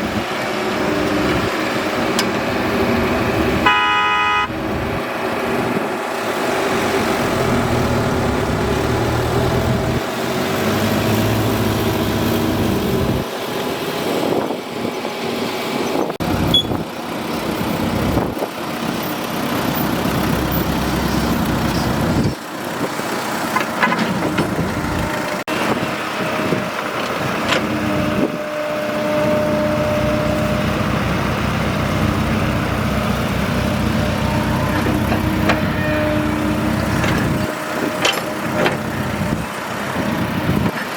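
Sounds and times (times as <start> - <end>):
excavator diesel engine working: 0.0 - 40.9.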